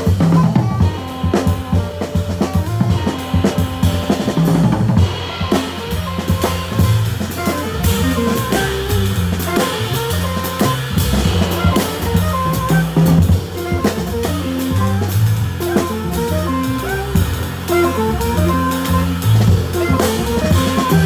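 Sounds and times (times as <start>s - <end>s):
drum kit with cymbals: 0.0s - 21.0s
jazz guitar: 0.0s - 21.0s
upright bass walking: 0.0s - 21.0s.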